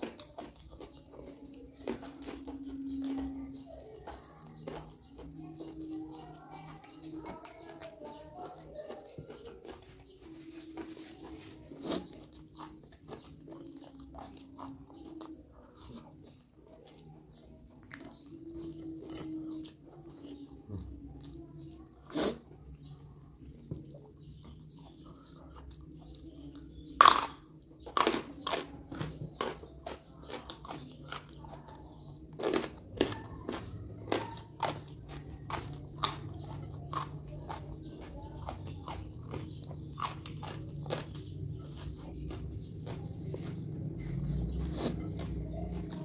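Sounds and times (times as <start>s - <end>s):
chewing raw vegetables: 0.0s - 46.0s.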